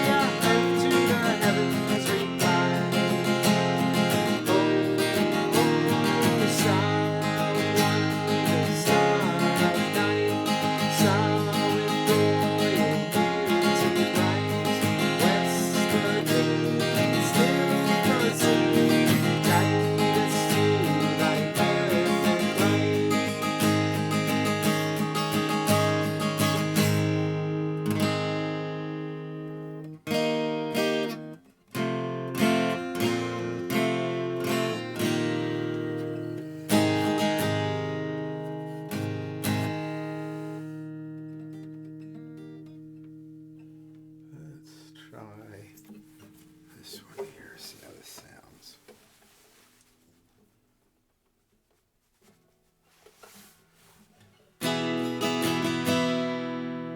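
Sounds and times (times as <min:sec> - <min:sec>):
acoustic guitar strumming: 0:00.0 - 0:50.6, 0:52.1 - 0:56.9.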